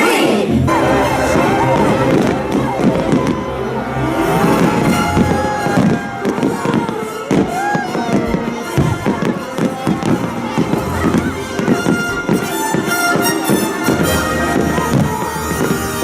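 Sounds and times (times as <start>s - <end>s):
loud music with held notes: 0.0s - 16.0s
fireworks bangs: 0.7s - 16.0s.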